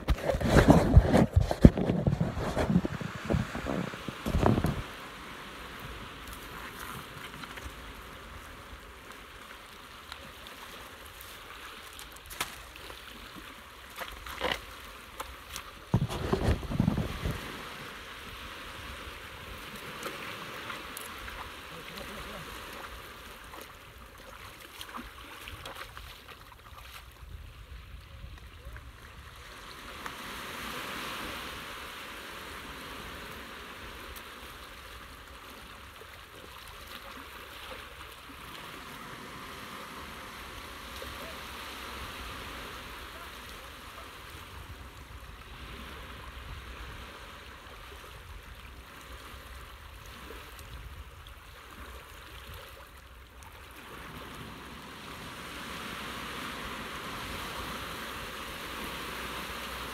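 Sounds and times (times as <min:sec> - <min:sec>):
sea water rushing: 0:00.0 - 0:59.9.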